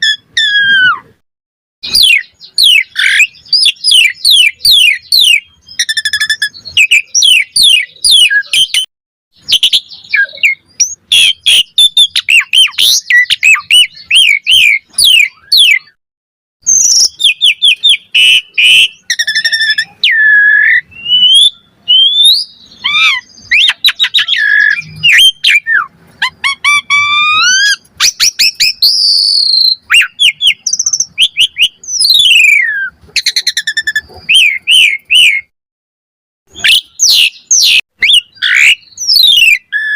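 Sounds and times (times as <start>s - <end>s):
starling singing: 0.0s - 1.1s, 1.8s - 16.0s, 16.6s - 35.5s, 36.5s - 39.9s.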